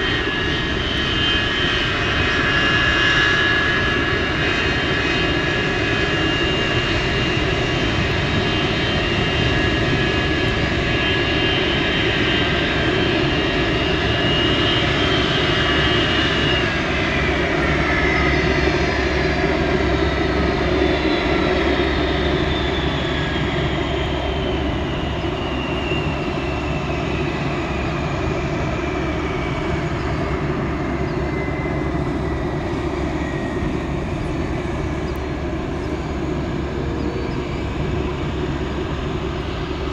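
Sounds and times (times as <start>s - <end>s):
jet engine whine spooling down: 0.0s - 39.9s.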